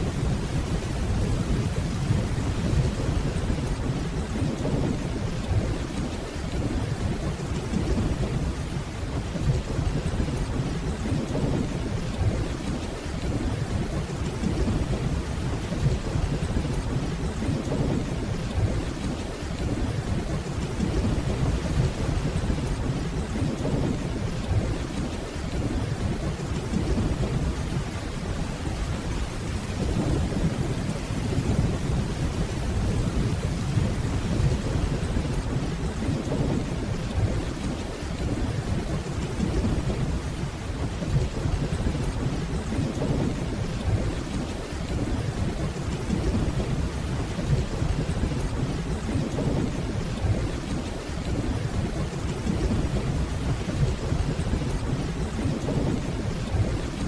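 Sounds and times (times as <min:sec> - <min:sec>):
distant thunder rumble: 0:00.0 - 0:57.0
steady rainfall: 0:00.0 - 0:57.0.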